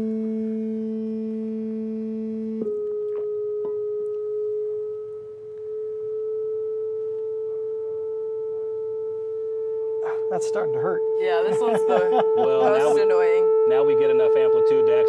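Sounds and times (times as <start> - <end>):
high piercing sine test tone: 0.0 - 15.0.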